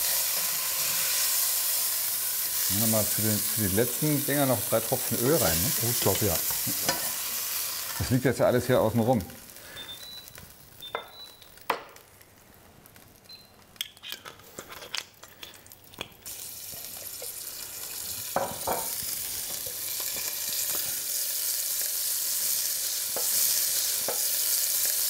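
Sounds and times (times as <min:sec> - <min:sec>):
meat sizzling in hot oil: 0:00.0 - 0:12.3, 0:15.7 - 0:25.0.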